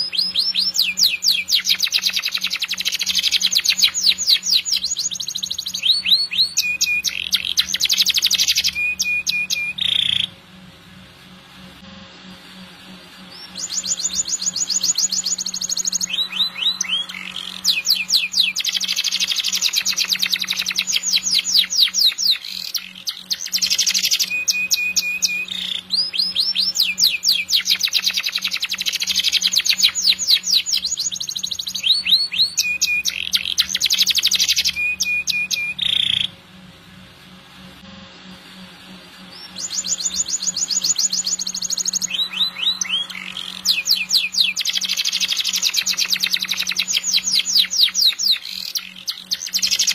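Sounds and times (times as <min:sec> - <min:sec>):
canary singing trills: 0:00.0 - 0:10.4, 0:13.3 - 0:36.4, 0:39.2 - 0:49.9.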